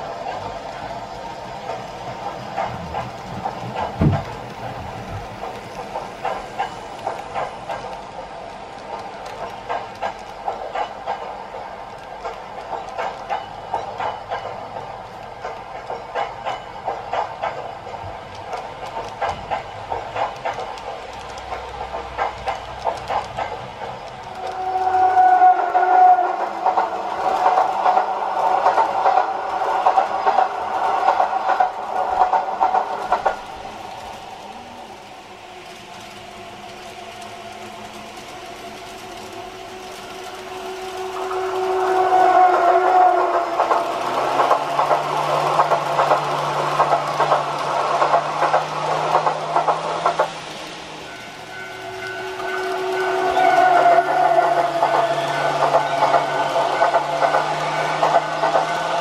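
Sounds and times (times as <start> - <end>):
model train rolling rattle: 0.0 - 59.0
wheels clicking over rail joints: 0.0 - 59.0.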